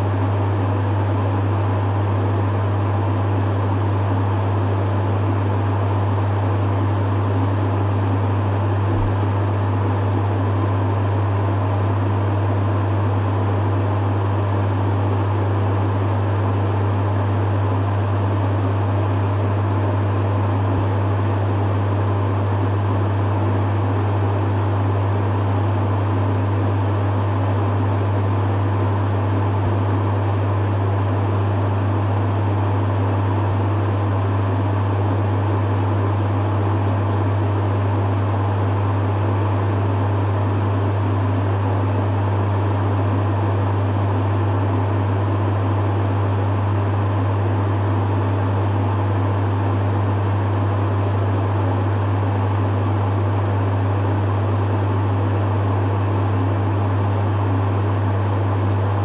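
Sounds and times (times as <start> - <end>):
dehumidifier humming: 0.0 - 59.0.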